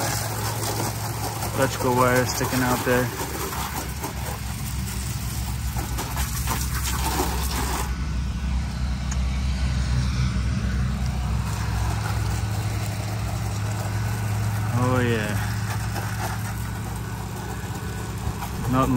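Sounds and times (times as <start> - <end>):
water spray hissing: 0.0 - 8.0, 11.0 - 18.9
pressure washer engine humming: 0.0 - 18.9.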